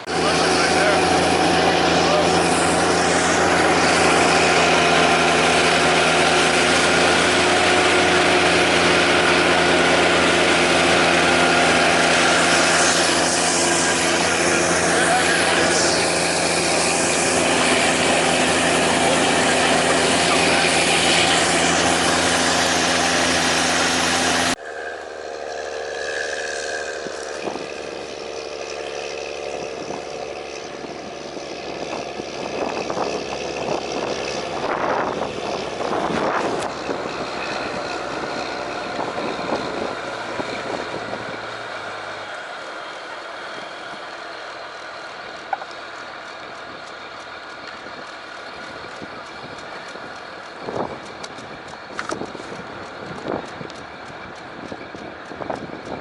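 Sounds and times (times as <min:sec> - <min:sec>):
snowcat engine running: 0:00.0 - 0:56.0.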